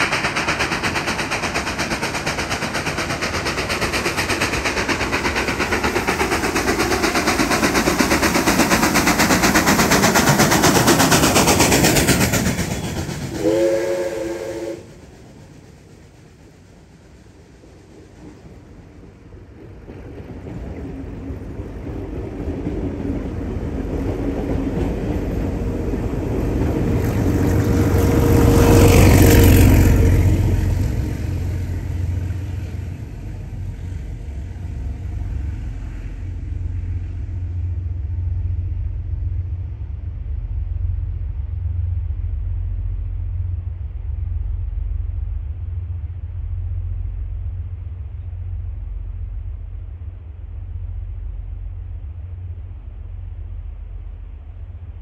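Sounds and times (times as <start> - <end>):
locomotive low rumble: 0.0 - 55.0
train wheels and carriages passing: 0.0 - 55.0.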